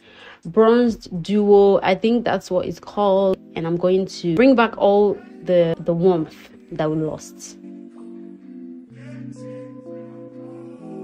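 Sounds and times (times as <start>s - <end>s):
soft sustained background music: 0.0s - 11.0s.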